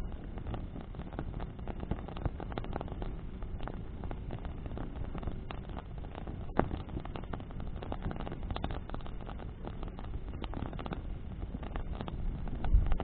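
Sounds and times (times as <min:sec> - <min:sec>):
bonfire crackling and popping: 0:00.0 - 0:13.0
steady low rumble: 0:00.0 - 0:13.0.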